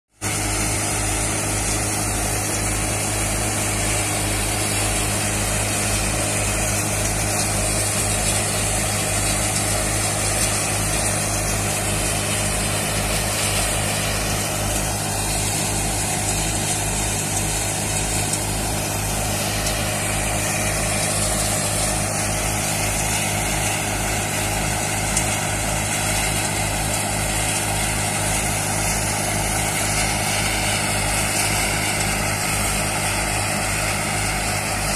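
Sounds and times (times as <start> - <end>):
thresher drum and sieves running: 0.1 - 34.9
tractor diesel engine running: 0.1 - 34.9.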